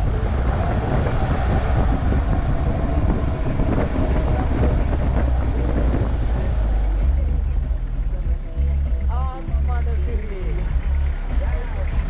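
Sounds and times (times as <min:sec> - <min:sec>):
vehicle engine and road rumble: 0:00.0 - 0:12.0
wind buffeting microphone: 0:00.0 - 0:12.0.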